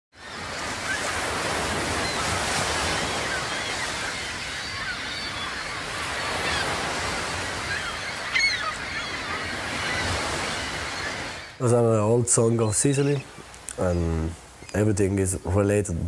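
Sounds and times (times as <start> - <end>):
seabird cries: 0.2 - 14.8
sea waves washing: 0.2 - 15.6.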